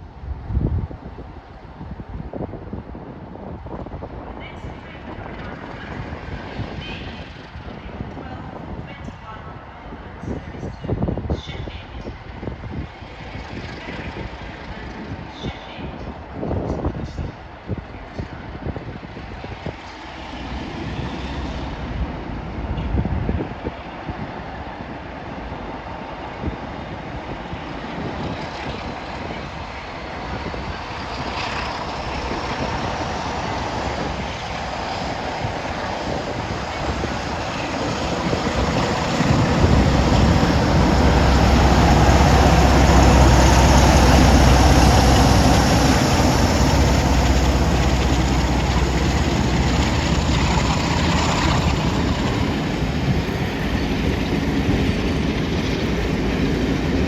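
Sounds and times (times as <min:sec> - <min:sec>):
train passing with deep rumble: 0:00.0 - 0:57.0.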